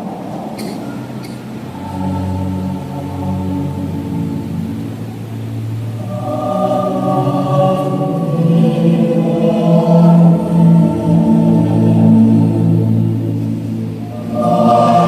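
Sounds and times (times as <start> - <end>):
choir singing sustained notes: 0.0 - 15.0.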